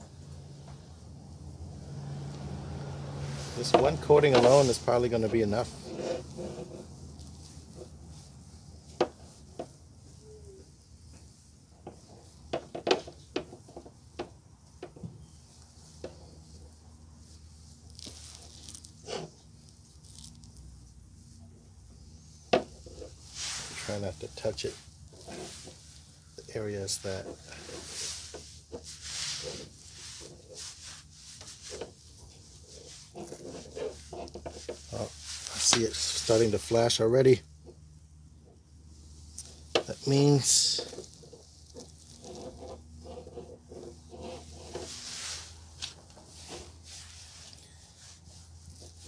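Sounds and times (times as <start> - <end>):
gloved hand rubbing plastic: 3.3 - 14.2, 15.3 - 37.0, 39.0 - 49.0.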